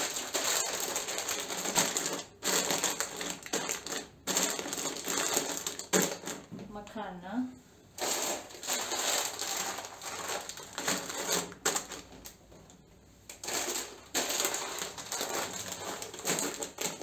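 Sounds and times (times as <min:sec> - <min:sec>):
plastic bags crinkling: 0:00.0 - 0:06.6, 0:07.9 - 0:17.0.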